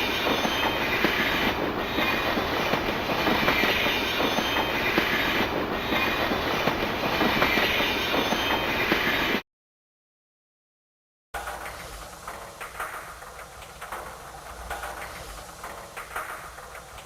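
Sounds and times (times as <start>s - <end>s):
rail clicks: 0.0s - 9.4s, 11.4s - 17.0s
train rumbling on rails: 0.0s - 9.4s, 11.4s - 17.0s.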